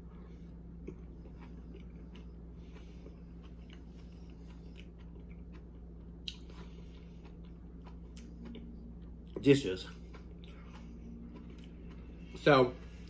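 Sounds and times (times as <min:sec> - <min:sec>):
person chewing: 0:00.0 - 0:13.0
steady low hum: 0:00.0 - 0:13.0.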